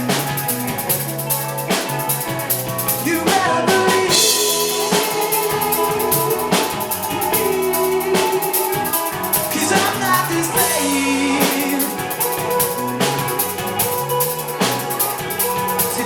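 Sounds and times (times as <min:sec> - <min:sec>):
bass guitar notes: 0:00.0 - 0:16.0
drum kit with cymbals: 0:00.0 - 0:16.0
effects-laden guitar: 0:00.0 - 0:16.0.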